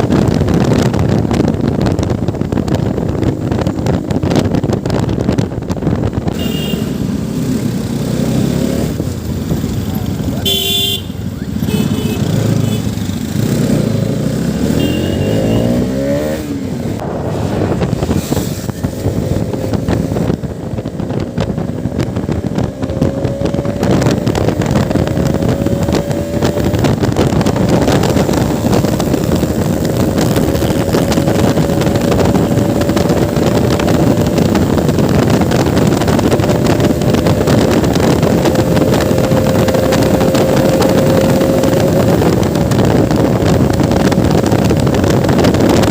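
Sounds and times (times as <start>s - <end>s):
motorcycle engine: 0.0s - 45.9s
rush of road noise: 0.0s - 45.9s.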